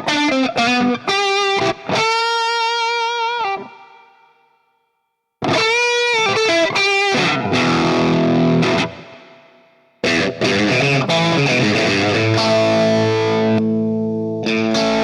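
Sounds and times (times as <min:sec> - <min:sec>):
distorted electric guitar: 0:00.0 - 0:04.4, 0:05.4 - 0:15.0.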